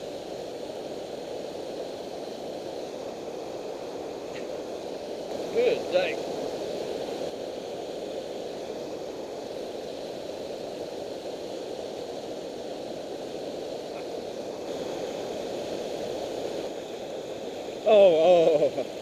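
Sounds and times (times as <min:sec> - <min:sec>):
river water pouring over dam: 0:00.0 - 0:19.0.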